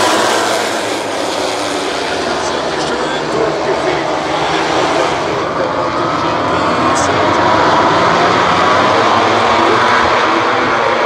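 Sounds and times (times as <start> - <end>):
racing motorcycles droning: 0.0 - 11.0.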